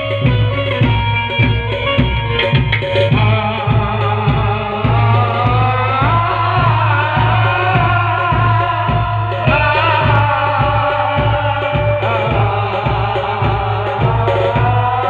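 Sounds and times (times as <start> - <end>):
heavy bass: 0.0 - 15.0
steady drum beat: 0.0 - 15.0
person singing sliding melodies: 1.6 - 15.0.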